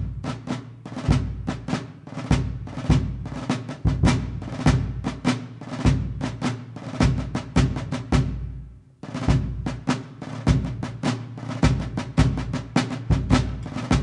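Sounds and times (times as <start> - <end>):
sharp drum strokes: 0.0 - 14.0.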